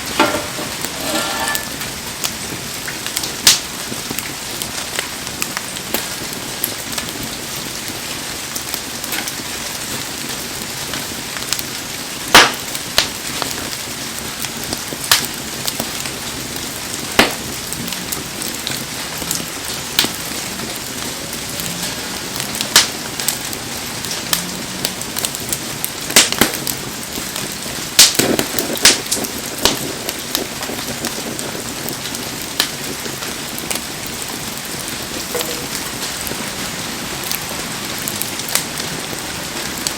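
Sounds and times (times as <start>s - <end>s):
campfire wood popping and cracking: 0.0s - 39.9s
heavy rain falling: 0.0s - 39.9s.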